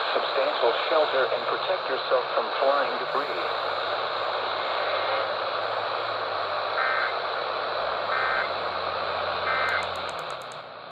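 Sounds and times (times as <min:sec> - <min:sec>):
radio hiss: 0:00.0 - 0:10.5.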